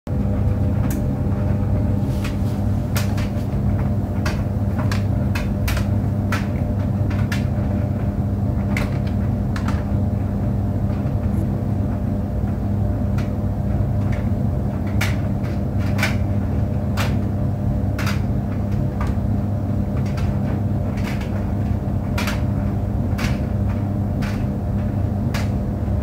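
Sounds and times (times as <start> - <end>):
clothes dryer humming: 0.1 - 26.0.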